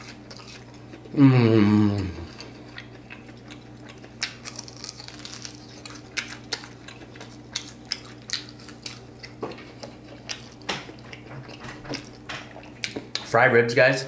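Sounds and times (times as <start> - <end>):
crunching and chewing fried rib: 0.0 - 13.5
steady low hum: 0.0 - 14.0.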